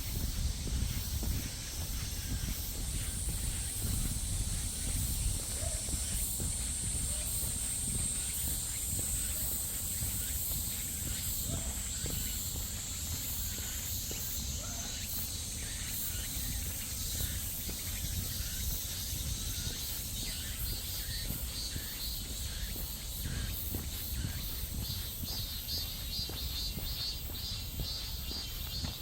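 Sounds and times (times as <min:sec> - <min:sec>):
footsteps: 0:00.0 - 0:29.0
insects droning: 0:00.0 - 0:29.0.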